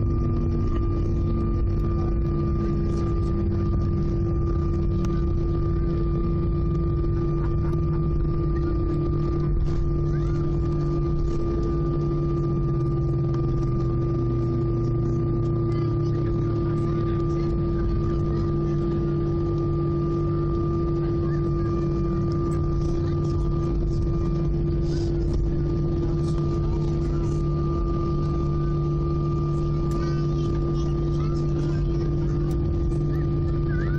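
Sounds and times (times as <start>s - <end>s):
jet engines idling in cabin: 0.0s - 33.9s.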